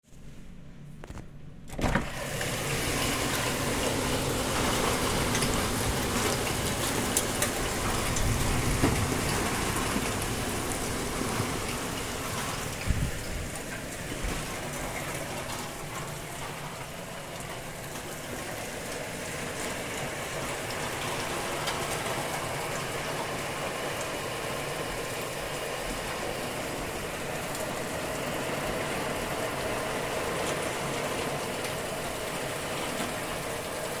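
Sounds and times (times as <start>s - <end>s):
heavy rain: 1.9s - 34.0s.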